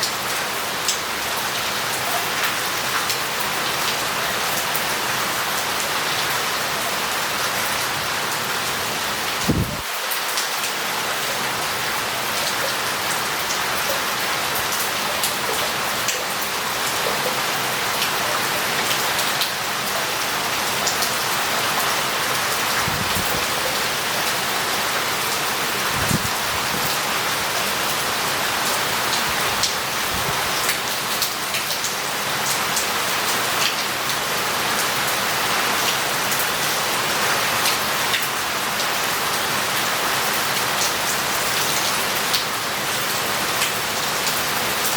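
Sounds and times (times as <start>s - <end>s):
heavy rain on street and roof: 0.0s - 44.9s.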